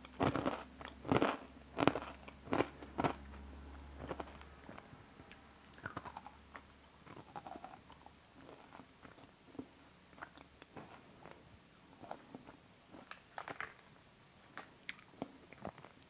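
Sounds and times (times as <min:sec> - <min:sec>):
person chewing crunchy food: 0:00.0 - 0:13.9, 0:14.5 - 0:16.0.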